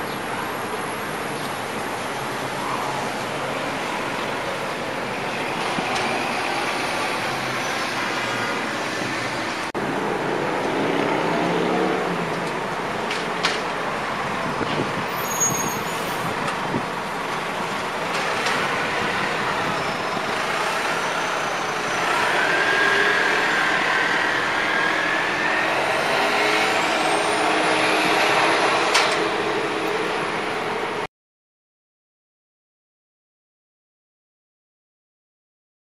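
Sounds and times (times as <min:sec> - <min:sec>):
street traffic noise: 0:00.0 - 0:31.1
bus engine driving off: 0:00.1 - 0:31.1.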